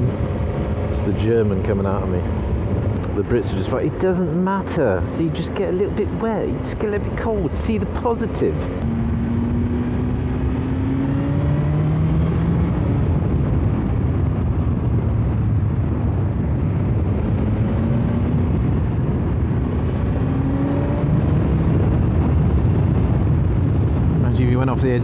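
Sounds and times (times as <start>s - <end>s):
motorcycle engine accelerating: 0.0s - 24.2s
rush of wind noise: 0.0s - 25.0s.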